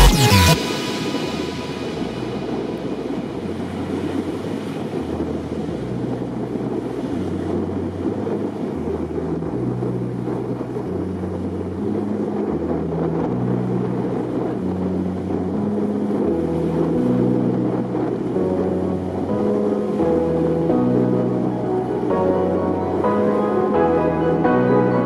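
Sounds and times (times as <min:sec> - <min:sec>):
rushing noise swell: 0:00.0 - 0:25.0
synth bass notes: 0:00.0 - 0:25.0.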